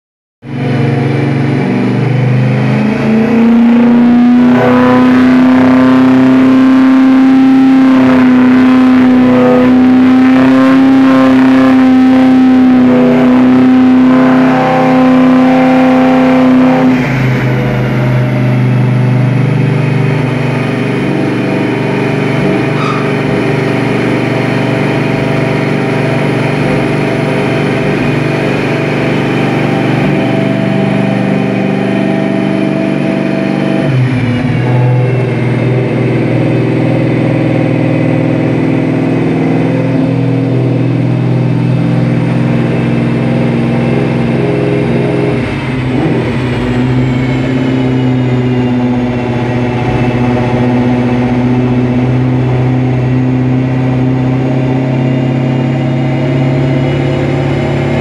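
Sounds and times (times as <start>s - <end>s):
car engine revving on dynamometer: 0.5s - 58.0s.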